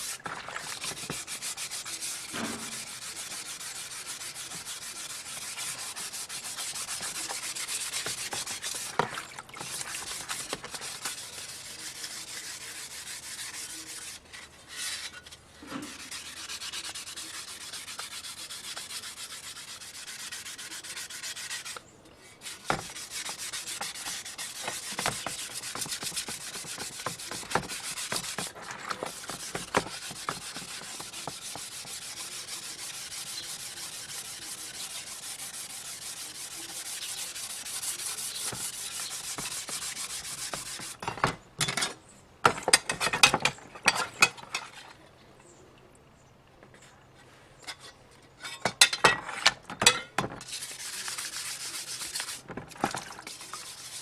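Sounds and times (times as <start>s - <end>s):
sandpaper rubbing on metal: 0.0s - 9.0s, 9.6s - 41.2s, 49.8s - 54.0s.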